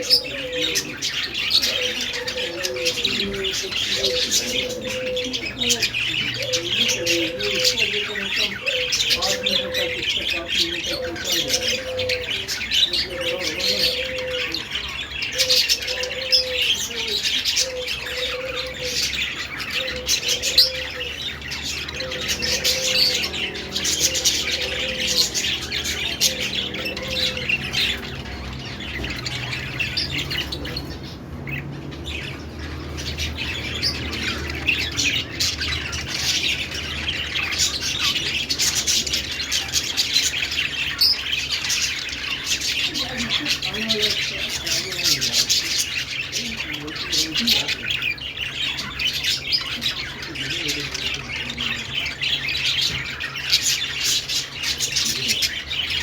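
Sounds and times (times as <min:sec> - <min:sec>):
budgerigars warbling and chattering: 0:00.0 - 0:56.0.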